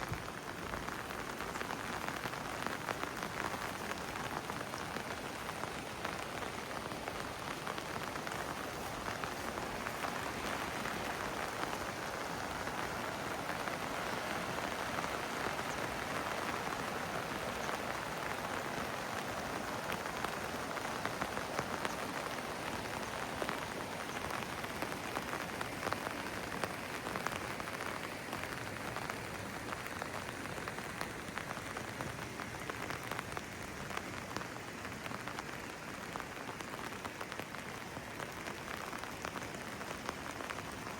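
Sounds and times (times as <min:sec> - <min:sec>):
rain on hard surfaces: 0:00.0 - 0:40.9
raindrops ticking: 0:00.0 - 0:40.9.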